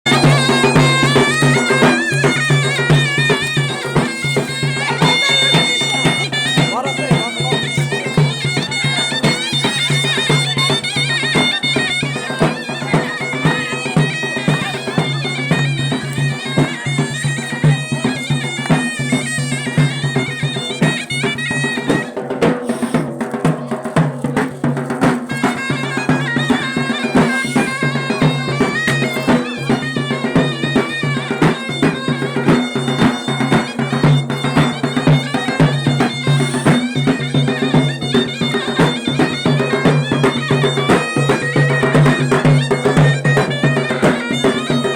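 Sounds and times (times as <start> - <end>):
drum beating: 0.0 - 44.9
reedy wind instrument melody: 0.1 - 23.3, 24.8 - 44.9.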